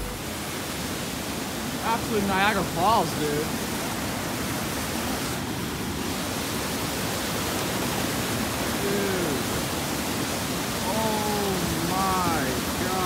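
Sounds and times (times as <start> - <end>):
floodwater rushing through channel: 0.0 - 13.0.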